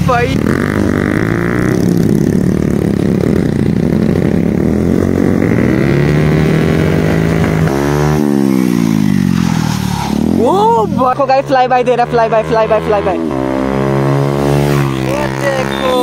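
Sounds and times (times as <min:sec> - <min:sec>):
motorcycle engine revving: 0:00.0 - 0:16.0
motorcycle passing by: 0:00.0 - 0:16.0.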